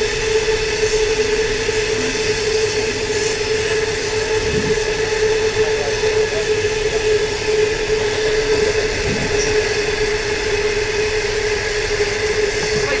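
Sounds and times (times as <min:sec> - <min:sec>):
constant droning tone: 0:00.0 - 0:13.0
train wheels rumbling on rail: 0:00.0 - 0:13.0.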